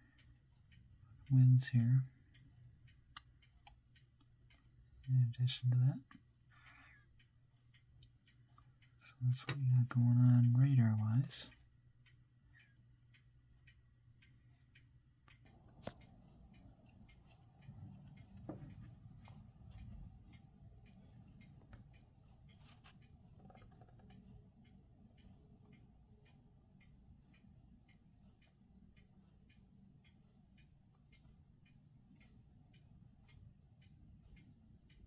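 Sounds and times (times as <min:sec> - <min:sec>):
faint rapid ticking: 0:00.0 - 0:35.0.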